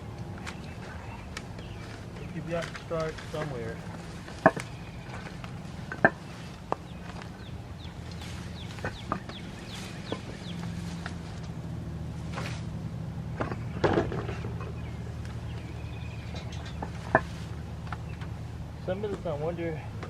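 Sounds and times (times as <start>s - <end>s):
birds calling: 0.0s - 20.0s
steady low hum: 0.0s - 20.0s.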